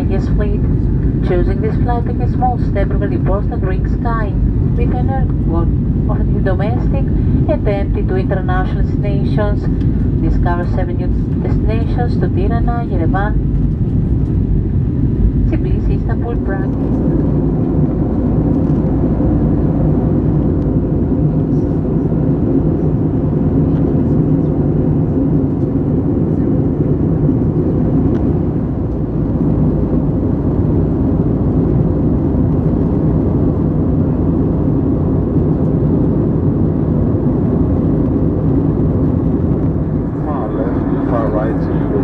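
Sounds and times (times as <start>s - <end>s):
aircraft cabin engine and airflow noise: 0.0s - 42.0s.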